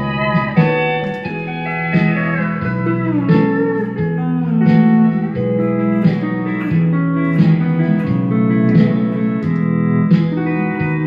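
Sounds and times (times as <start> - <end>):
pedal steel guitar chords: 0.0 - 11.0.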